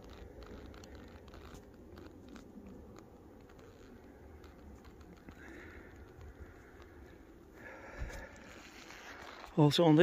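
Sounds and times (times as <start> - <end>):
steady low rumble: 0.0 - 9.5.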